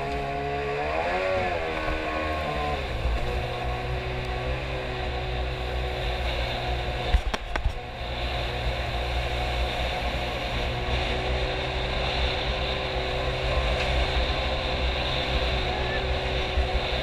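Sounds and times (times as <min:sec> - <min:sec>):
boat engine running: 0:00.0 - 0:17.0
water and wind rushing: 0:00.0 - 0:17.0.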